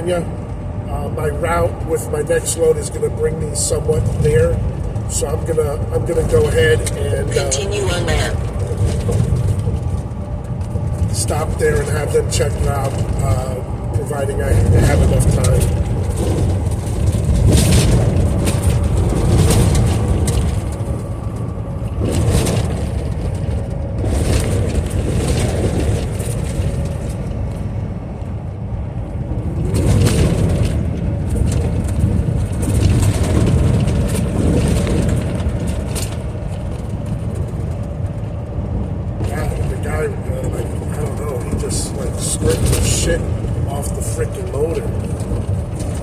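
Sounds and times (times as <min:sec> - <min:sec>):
truck engine and road rumble: 0:00.0 - 0:46.0.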